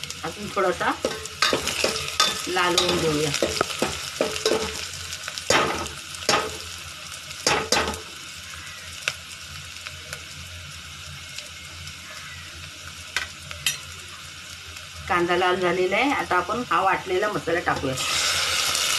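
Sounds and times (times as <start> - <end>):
onions sizzling in oil: 0.0 - 18.9.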